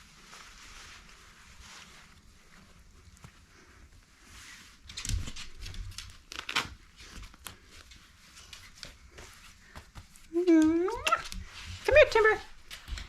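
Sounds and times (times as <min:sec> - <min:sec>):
fabric rustling: 0:00.0 - 0:12.9.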